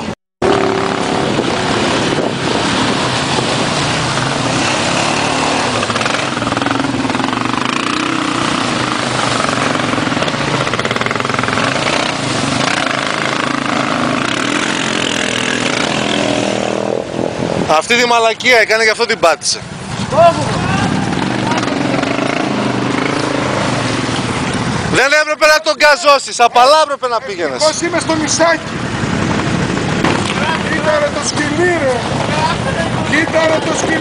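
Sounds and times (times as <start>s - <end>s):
atv engine at heavy throttle: 0.0s - 25.4s, 26.8s - 34.0s.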